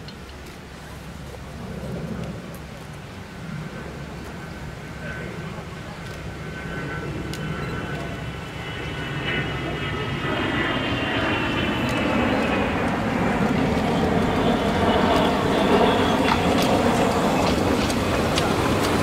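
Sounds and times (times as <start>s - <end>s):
jet bomber passing overhead: 1.0s - 19.0s.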